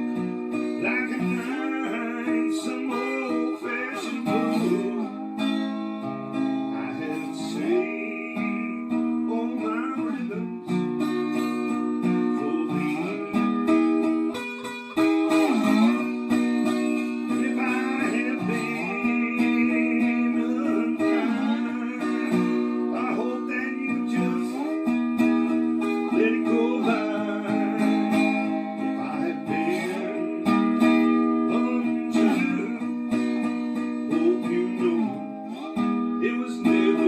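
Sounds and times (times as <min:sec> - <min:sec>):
acoustic guitar playing: 0:00.0 - 0:37.0
man singing: 0:00.0 - 0:37.0.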